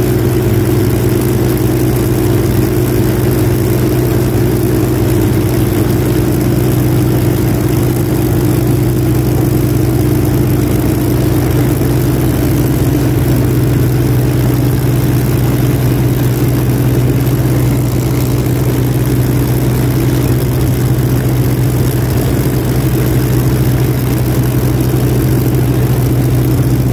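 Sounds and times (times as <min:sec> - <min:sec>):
piston aircraft engines idling: 0:00.0 - 0:26.9.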